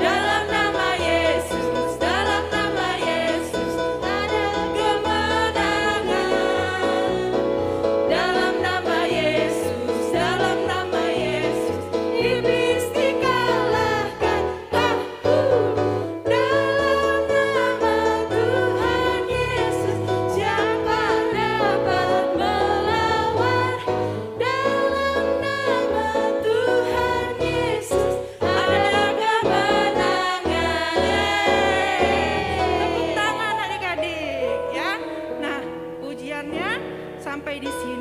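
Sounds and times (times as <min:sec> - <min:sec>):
voices singing praise song: 0:00.0 - 0:34.0.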